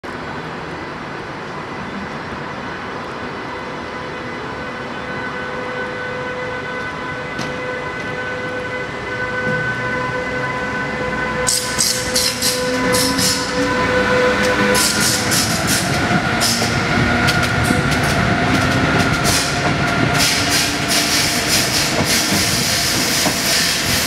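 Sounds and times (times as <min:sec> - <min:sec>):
train running noise: 0:00.0 - 0:24.0
electric locomotive whine: 0:00.1 - 0:24.0.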